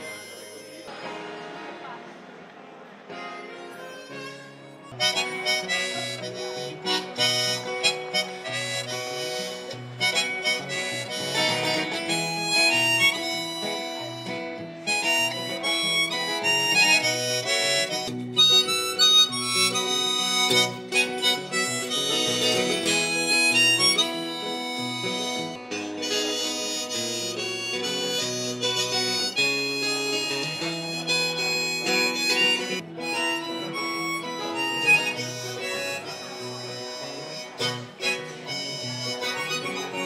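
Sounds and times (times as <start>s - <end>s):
harmonica: 0.0s - 1.3s, 3.1s - 40.0s
strummed acoustic guitar: 0.0s - 2.5s, 3.1s - 40.0s.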